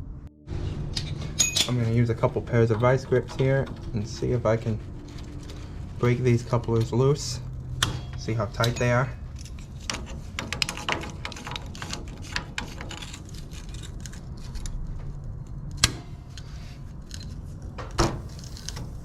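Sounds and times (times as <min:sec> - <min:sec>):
metallic clicks and clatter: 0:01.0 - 0:19.0.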